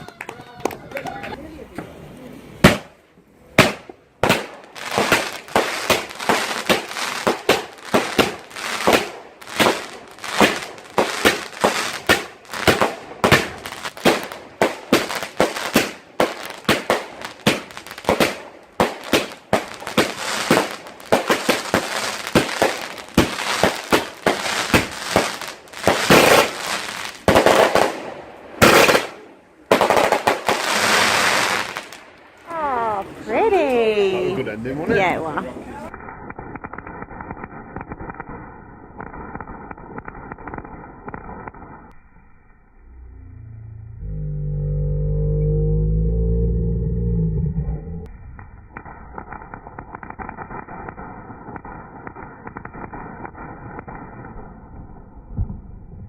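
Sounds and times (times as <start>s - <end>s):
fireworks bangs and crackling: 0.0s - 42.0s, 48.0s - 56.0s.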